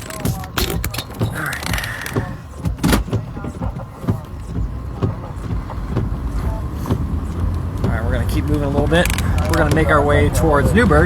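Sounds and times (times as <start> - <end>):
clicks and knocks: 0.0 - 11.0
low car rumble: 0.0 - 11.0.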